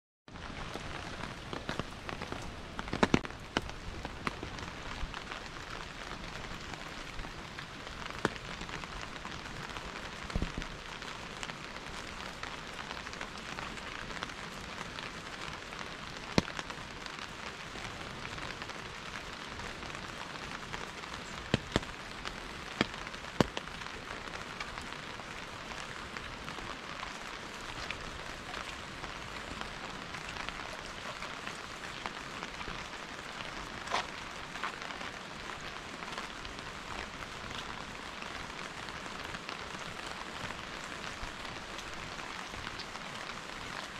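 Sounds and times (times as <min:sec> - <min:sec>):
sharp rain taps: 0:00.3 - 0:43.9
steady rain hiss: 0:00.3 - 0:43.9.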